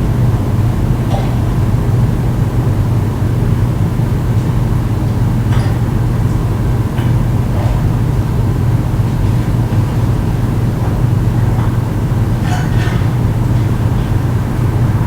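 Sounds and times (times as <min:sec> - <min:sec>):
water heater humming: 0:00.0 - 0:15.0.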